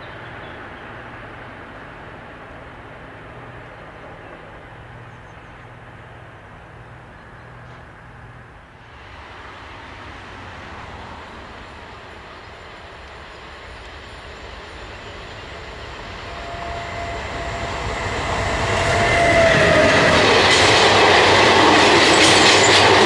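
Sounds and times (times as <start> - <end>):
high-pitched rail noise: 0.0 - 23.0
train running on track: 0.0 - 23.0.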